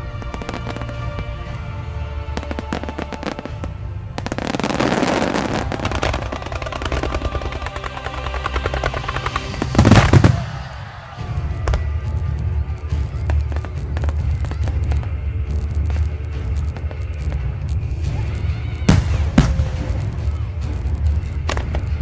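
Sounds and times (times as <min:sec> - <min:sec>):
background music: 0:00.0 - 0:22.0
fireworks crackling and popping: 0:00.0 - 0:22.0.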